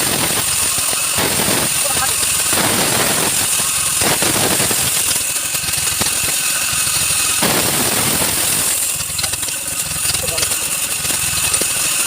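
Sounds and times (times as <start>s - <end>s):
machine motor pulsing: 0.0s - 12.0s.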